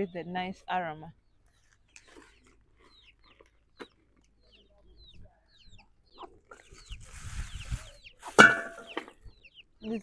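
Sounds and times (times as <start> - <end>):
chicks peeping: 1.2 - 10.0
chickens clucking: 1.9 - 10.0.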